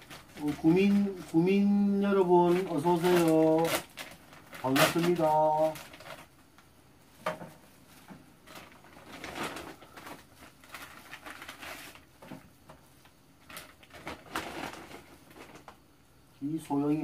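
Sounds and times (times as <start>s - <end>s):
plastic packaging crinkling: 0.0s - 6.7s, 8.4s - 15.9s.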